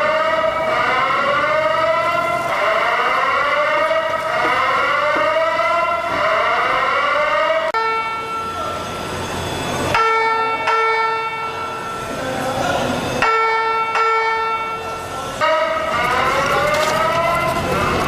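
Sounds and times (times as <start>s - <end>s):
fire alarm whoop tone: 0.0s - 12.2s, 12.9s - 18.0s.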